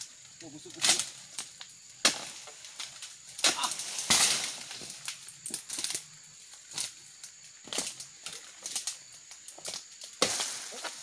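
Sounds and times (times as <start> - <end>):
crashing rustle of palm fronds: 0.4 - 11.0.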